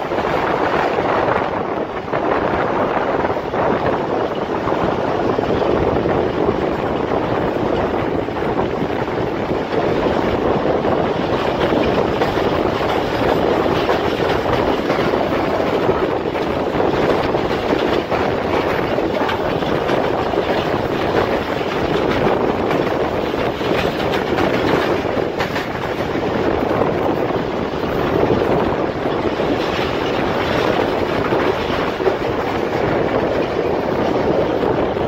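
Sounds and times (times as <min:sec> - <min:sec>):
train wheels on rails: 0:00.0 - 0:35.0.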